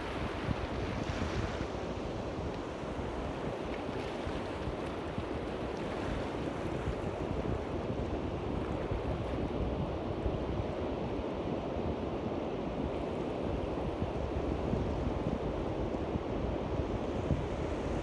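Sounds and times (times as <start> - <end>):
small waves washing on shore: 0.0 - 18.0
wind rumbling on microphone: 0.0 - 18.0.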